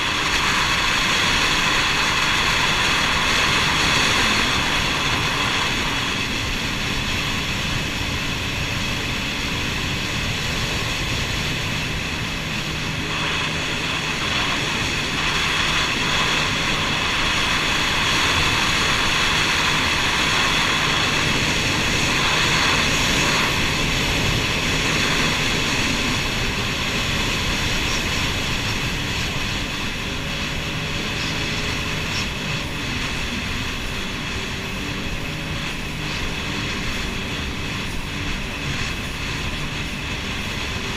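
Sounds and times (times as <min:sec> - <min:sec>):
jet ski engine running: 0:00.0 - 0:40.9.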